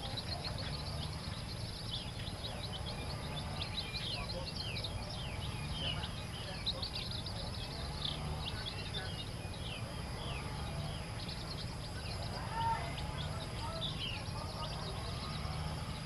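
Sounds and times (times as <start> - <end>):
chicks peeping: 0.0 - 16.0
low steady rumble: 0.0 - 16.0.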